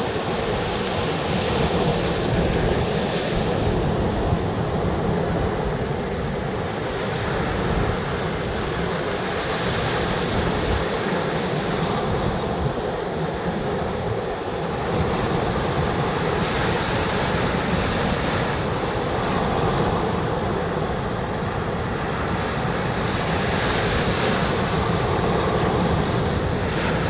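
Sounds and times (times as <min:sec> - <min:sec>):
sea surf: 0:00.0 - 0:27.0.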